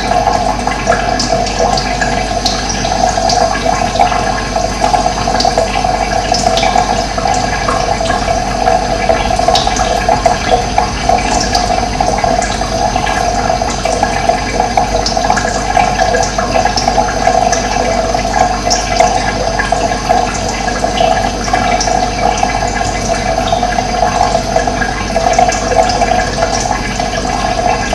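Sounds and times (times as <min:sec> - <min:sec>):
running water rushing: 0:00.0 - 0:27.9.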